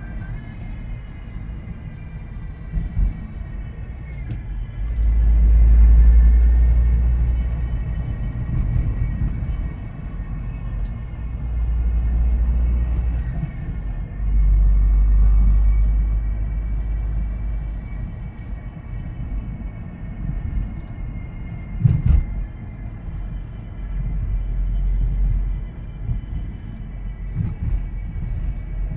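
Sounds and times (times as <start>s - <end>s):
gearbox whine: 0.0s - 28.9s
low rumble: 0.0s - 28.9s.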